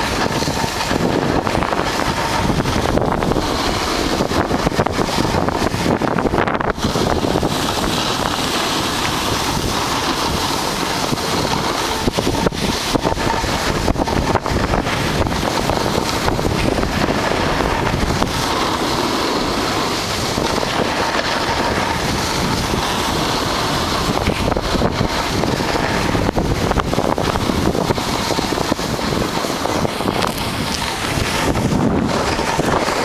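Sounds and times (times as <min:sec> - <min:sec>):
snowboard sliding on packed snow: 0:00.0 - 0:33.0
wind rushing over microphone: 0:00.0 - 0:33.0.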